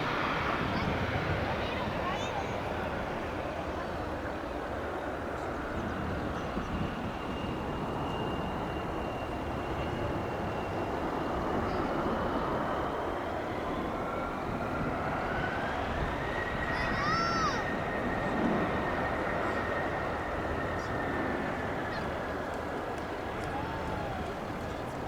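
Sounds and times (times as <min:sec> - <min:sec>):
jet engines rumbling with whine: 0:00.0 - 0:25.0.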